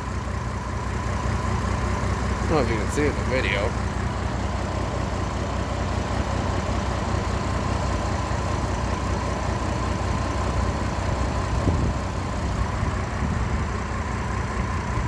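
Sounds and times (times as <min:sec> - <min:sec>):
car engine idling roughly: 0:00.0 - 0:15.0.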